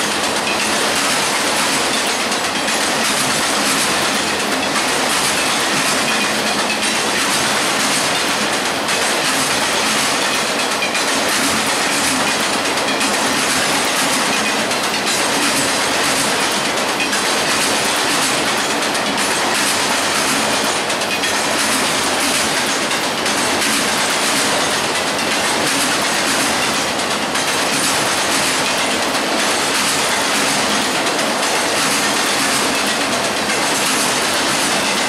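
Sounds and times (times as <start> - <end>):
train wheels rushing on rails: 0.0 - 35.0
wheels clacking over rail joints: 0.0 - 35.0.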